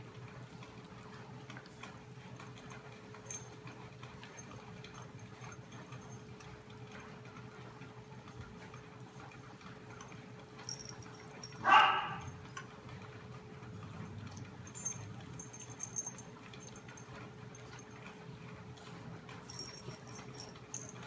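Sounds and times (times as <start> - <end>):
puppies chewing and licking: 0.0 - 21.0.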